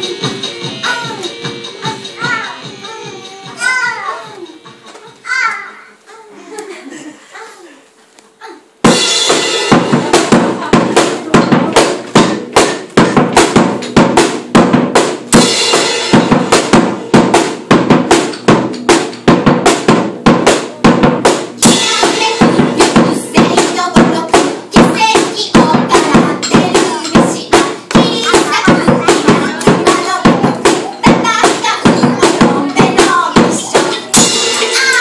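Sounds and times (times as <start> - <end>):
drum kit fast beat with cymbals: 0.0 - 3.8, 8.8 - 35.0.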